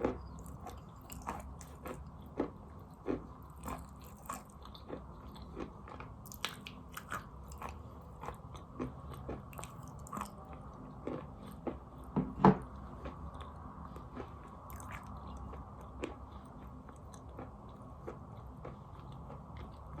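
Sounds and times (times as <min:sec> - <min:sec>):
chalk being chewed crunching: 0:00.0 - 0:12.1, 0:12.8 - 0:20.0.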